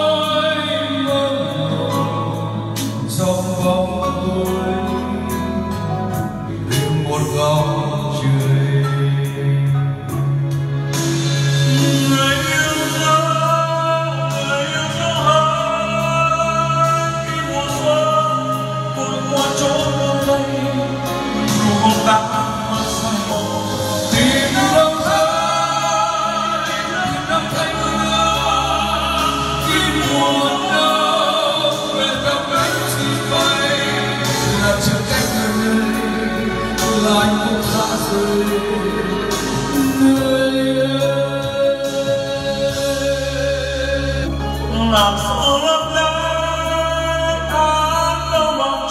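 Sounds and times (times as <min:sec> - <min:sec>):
karaoke backing track: 0:00.0 - 0:48.9
men singing into microphones: 0:00.0 - 0:48.9.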